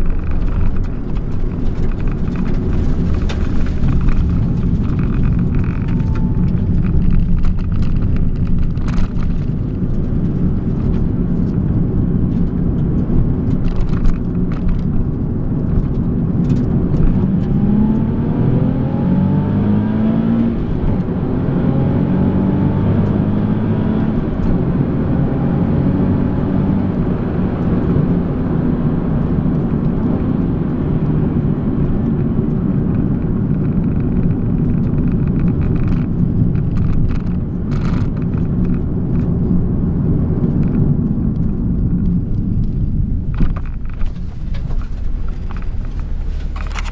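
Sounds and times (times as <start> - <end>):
car engine accelerating: 0.0 - 46.9
road rumble: 0.0 - 46.9.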